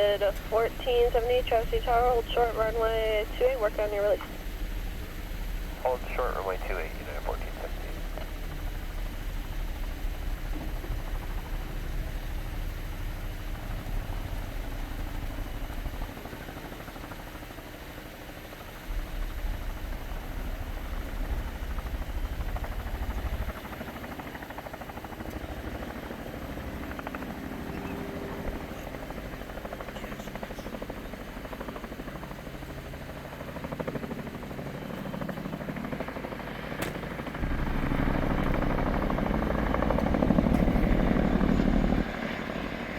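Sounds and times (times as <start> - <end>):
helicopter rotor rumble: 0.0 - 42.9.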